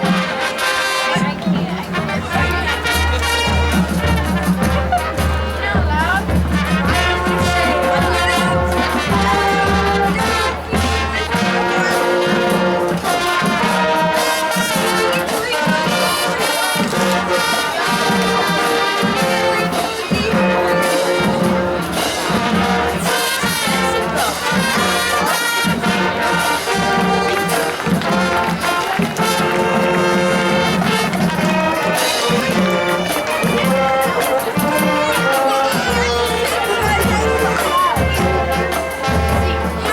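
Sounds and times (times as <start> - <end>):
marching band playing: 0.0 - 39.9.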